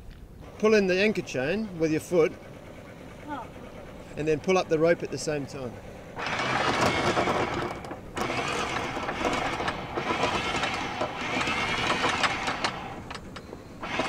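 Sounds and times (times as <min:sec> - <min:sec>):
anchor windlass motor whirring: 0:00.4 - 0:14.0.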